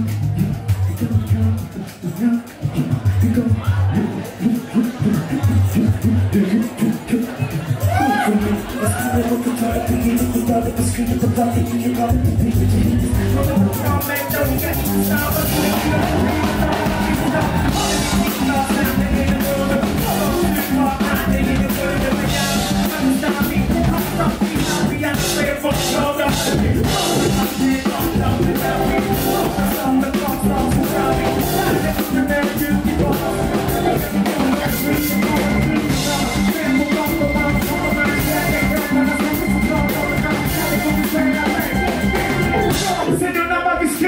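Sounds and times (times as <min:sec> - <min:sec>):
live hip-hop band: 0:00.0 - 0:44.0
rapped and sung vocals: 0:00.0 - 0:44.0.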